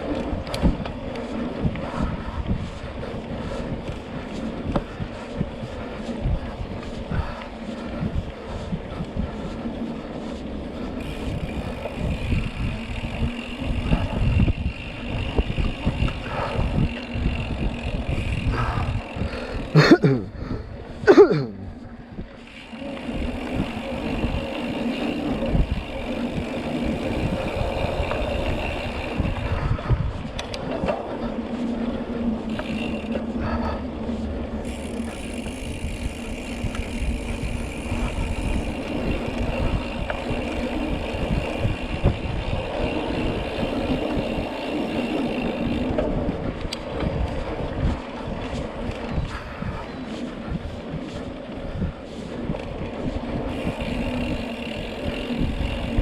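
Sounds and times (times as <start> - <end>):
bike rattling: 0.0 - 56.0
bike tyres rumbling on dirt: 0.0 - 56.0
wind on microphone: 0.0 - 56.0.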